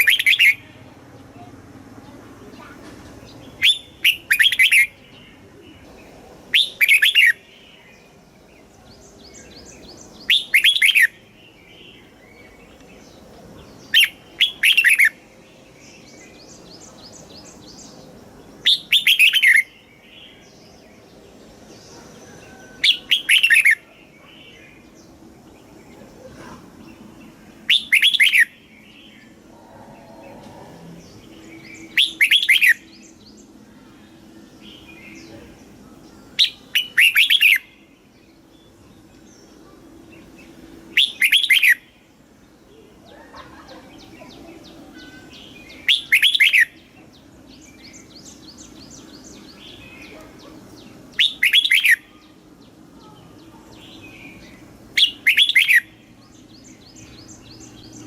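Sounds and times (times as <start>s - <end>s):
faint bird chirps and trills: 0.0s - 58.0s.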